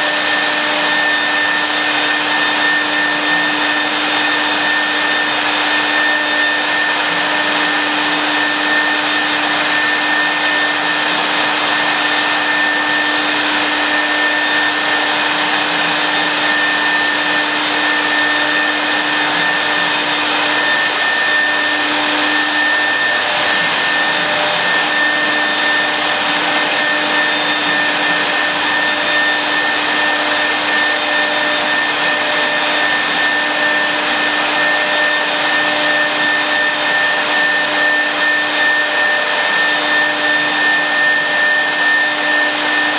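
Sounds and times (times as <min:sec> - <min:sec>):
cnc router whirring: 0:00.0 - 0:42.9.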